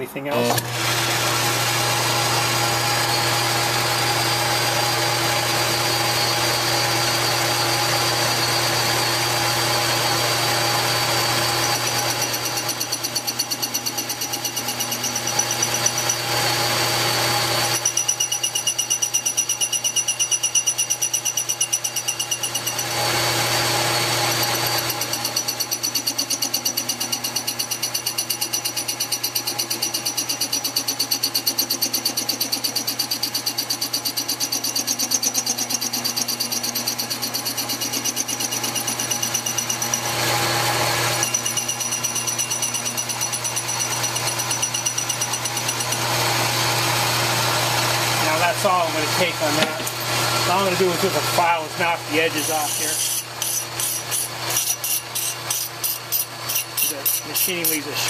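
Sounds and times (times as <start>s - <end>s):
lathe motor hum and whine: 0.0s - 58.0s
cutting tool cutting metal: 0.3s - 58.0s.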